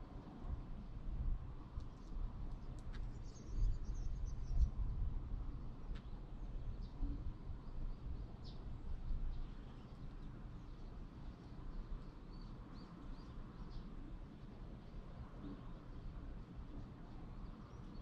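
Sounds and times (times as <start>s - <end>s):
small birds chirping: 2.0s - 4.8s, 6.0s - 18.0s.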